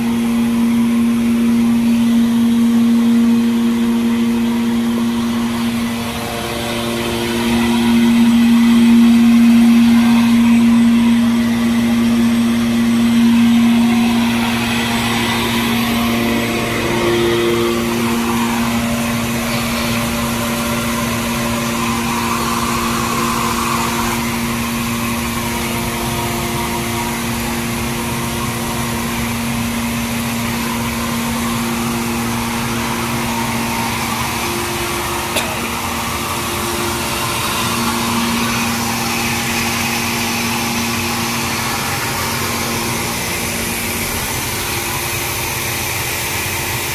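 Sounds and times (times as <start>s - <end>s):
machinery motors and blower humming: 0.0s - 46.9s.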